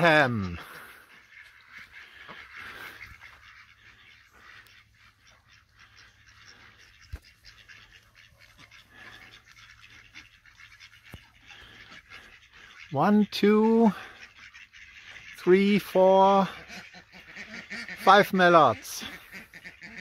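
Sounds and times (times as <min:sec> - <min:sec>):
duck calls: 0:00.0 - 0:20.0.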